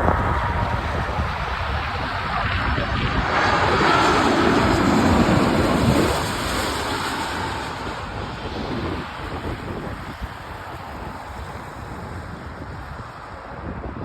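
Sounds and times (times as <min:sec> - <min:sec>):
jet engine passing: 0:00.0 - 0:14.0.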